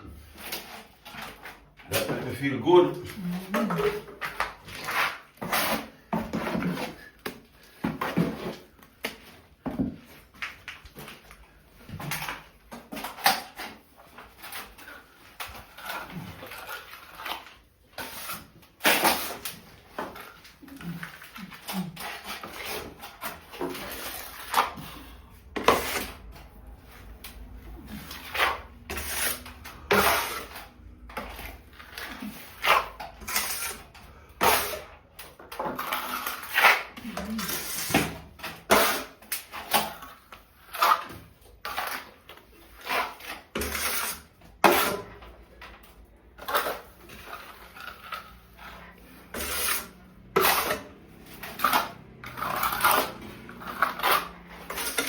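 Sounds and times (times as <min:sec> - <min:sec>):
knocks scrapes and clatter: 0:00.0 - 0:55.0.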